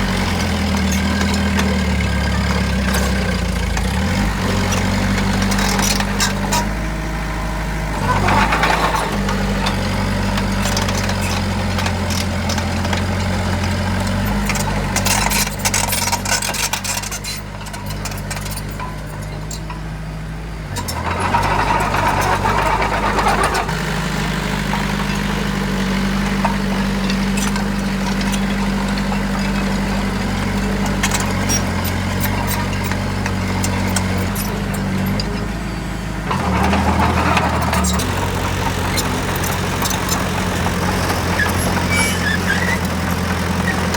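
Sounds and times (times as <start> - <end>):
heavy diesel machinery engine: 0.0 - 43.9
metallic clanks and rattles: 8.0 - 35.6, 36.3 - 43.9.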